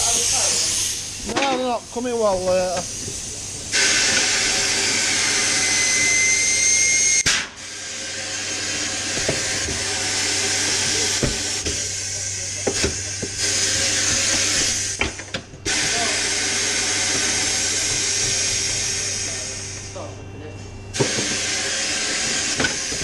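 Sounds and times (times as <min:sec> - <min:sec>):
steady low hum: 0:00.0 - 0:05.5, 0:07.6 - 0:23.0
compressed air hissing: 0:00.0 - 0:15.1, 0:15.7 - 0:20.1, 0:20.9 - 0:23.0.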